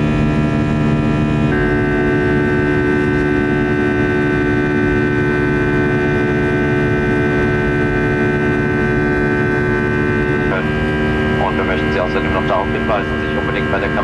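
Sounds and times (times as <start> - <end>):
jet engine drone in cabin: 0.0 - 14.0.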